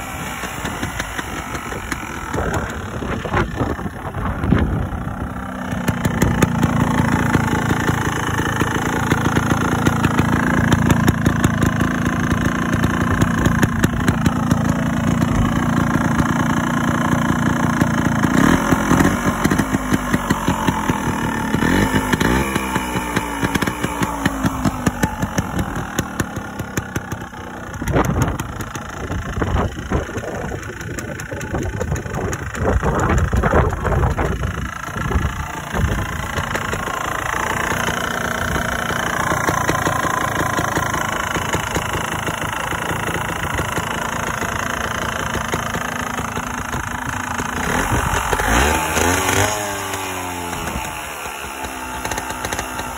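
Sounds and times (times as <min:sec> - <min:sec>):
engine throttle blips: 0:00.0 - 0:52.9
two-stroke engine idling: 0:00.0 - 0:52.9.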